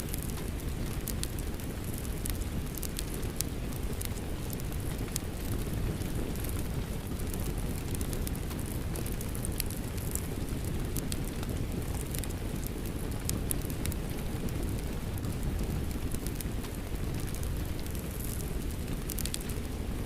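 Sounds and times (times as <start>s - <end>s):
fireplace crackling and popping: 0.0s - 20.0s
steady rain: 0.0s - 20.0s.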